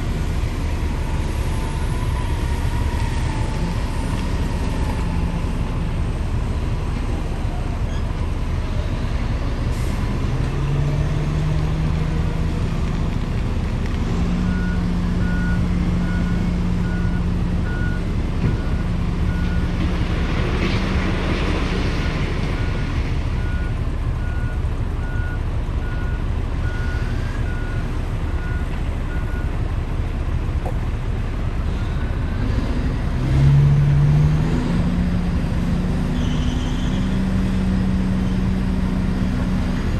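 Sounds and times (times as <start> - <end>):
dump truck engine running: 0.0 - 36.1.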